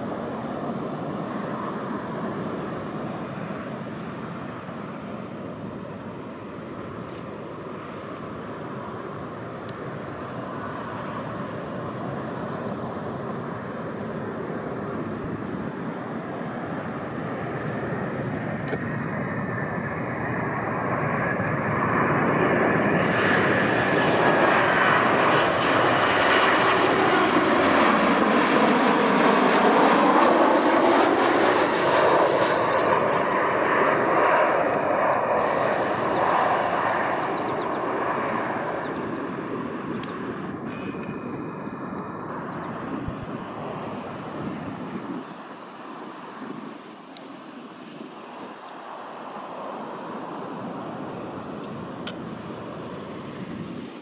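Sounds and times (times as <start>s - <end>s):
jet airliner flying past: 0.0s - 54.0s.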